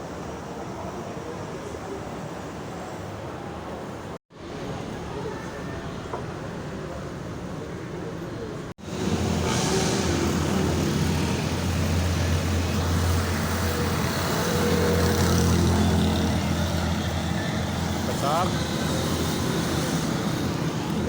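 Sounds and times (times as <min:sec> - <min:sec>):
traffic rumble: 0:00.1 - 0:21.0.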